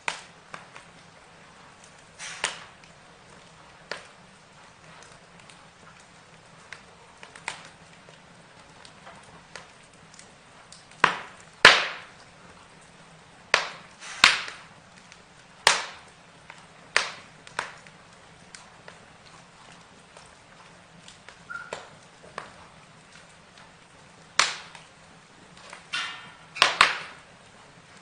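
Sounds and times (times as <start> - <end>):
burning wood crackling and popping: 0.0 - 28.0.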